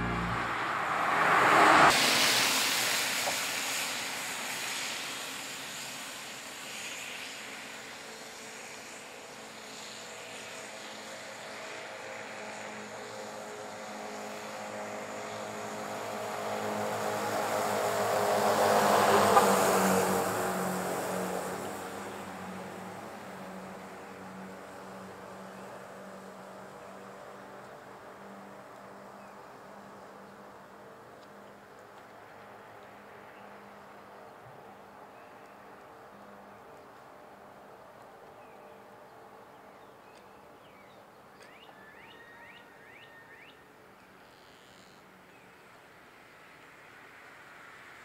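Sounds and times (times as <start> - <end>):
vehicles passing on a road: 0.0 - 48.0.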